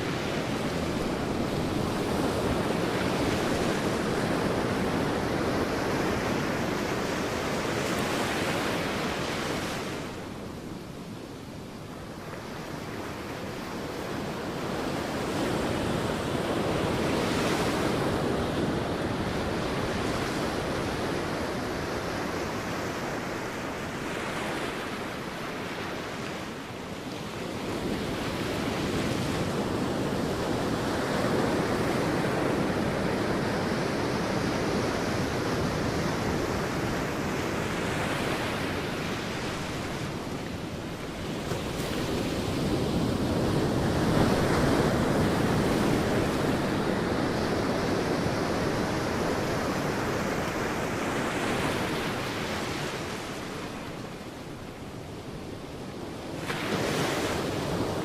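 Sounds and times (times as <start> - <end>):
sea waves washing on beach: 0.0 - 58.0.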